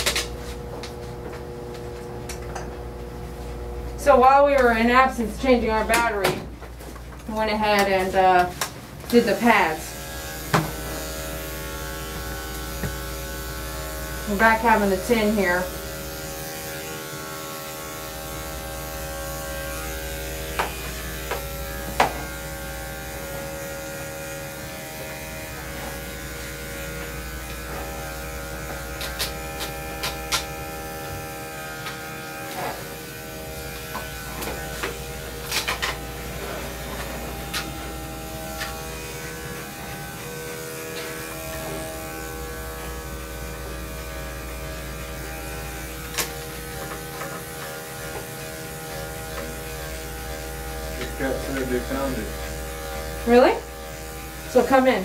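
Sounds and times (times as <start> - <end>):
electric clippers buzzing: 0.0 - 55.0.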